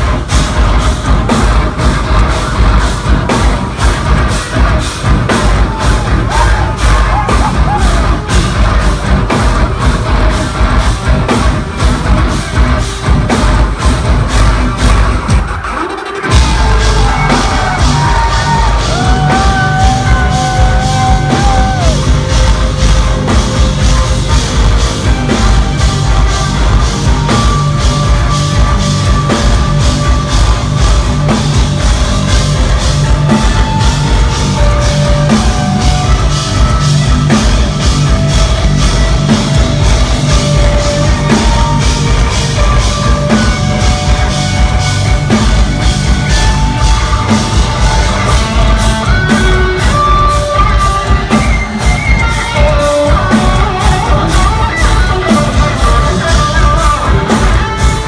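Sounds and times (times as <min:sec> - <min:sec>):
heavy distorted guitars: 0:00.0 - 0:58.0
pounding drums: 0:00.0 - 0:58.0.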